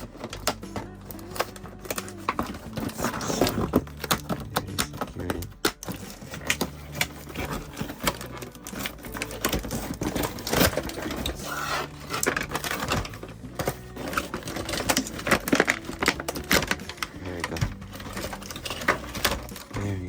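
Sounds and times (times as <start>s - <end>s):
cardboard and plastic being handled: 0.0s - 20.0s.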